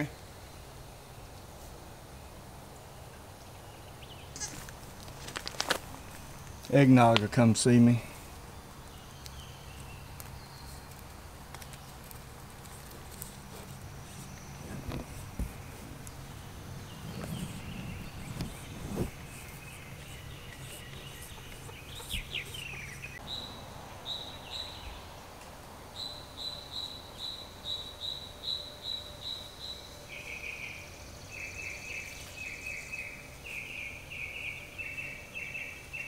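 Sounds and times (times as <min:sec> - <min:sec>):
small birds chirping: 0:02.1 - 0:25.2, 0:25.9 - 0:36.0.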